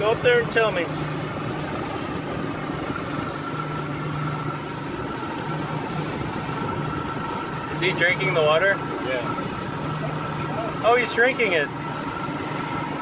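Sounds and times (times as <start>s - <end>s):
boat engine humming: 0.0s - 13.0s
wind and water noise: 0.0s - 13.0s.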